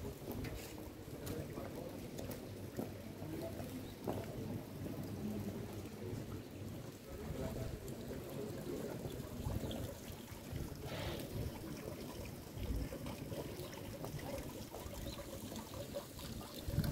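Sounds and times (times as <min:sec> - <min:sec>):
rain dripping on stone: 0:00.0 - 0:16.9.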